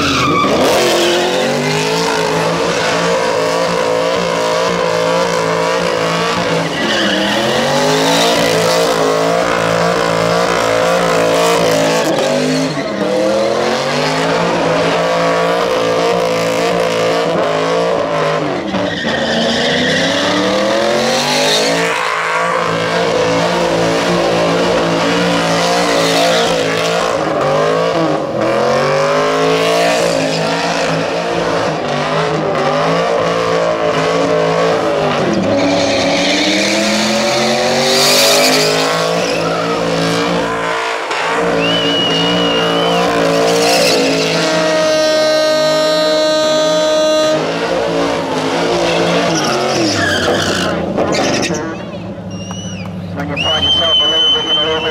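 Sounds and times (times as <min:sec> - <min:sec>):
tyres screeching: 0:00.0 - 0:16.8, 0:18.1 - 0:27.3, 0:34.4 - 0:54.9
car engine revving: 0:00.0 - 0:54.9.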